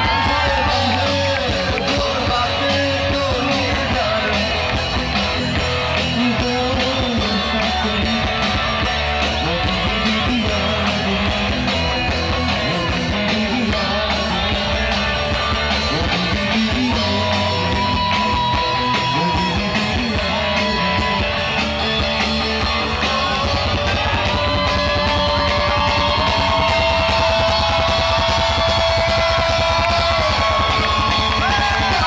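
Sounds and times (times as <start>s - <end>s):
man singing long notes: 0.0s - 4.7s, 5.9s - 27.6s
rock band playing: 0.0s - 32.0s.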